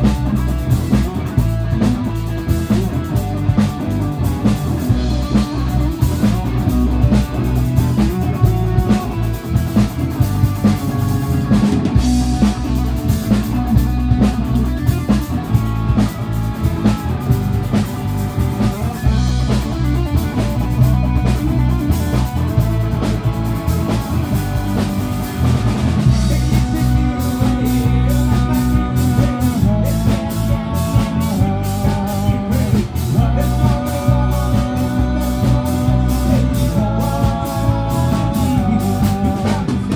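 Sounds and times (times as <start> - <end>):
instrumental rock music: 0.0 - 39.9.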